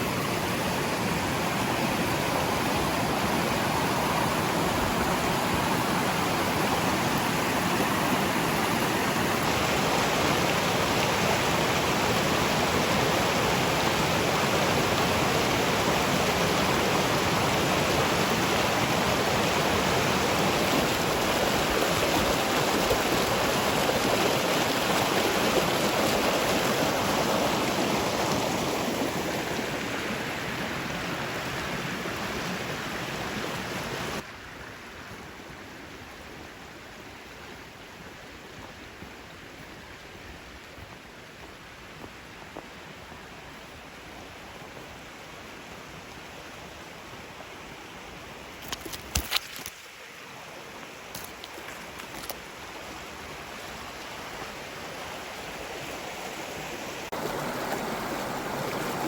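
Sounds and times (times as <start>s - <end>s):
stream rushing over cascades: 0.0s - 59.0s.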